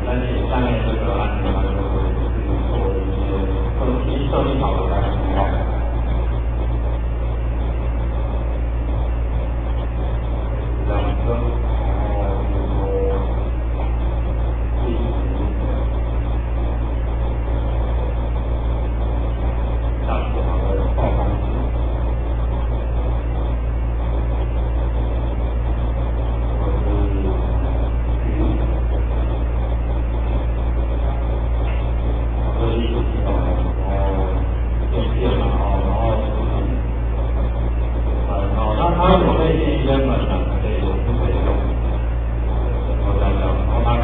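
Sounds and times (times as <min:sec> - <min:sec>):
constant hiss: 0:00.0 - 0:44.0
faint voices: 0:00.0 - 0:44.0
steady low hum: 0:00.0 - 0:44.0.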